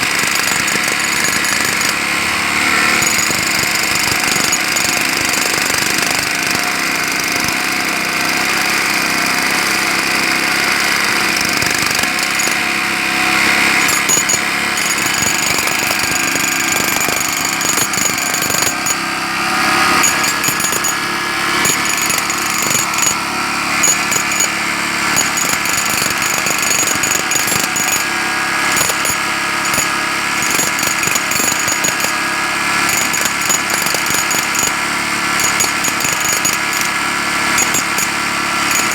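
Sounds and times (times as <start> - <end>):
jackhammer hammering: 0.0 - 38.9.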